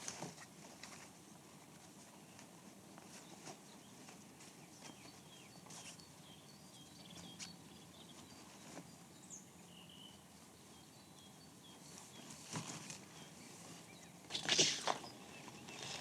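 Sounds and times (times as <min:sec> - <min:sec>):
small birds chirping: 0:02.0 - 0:16.0.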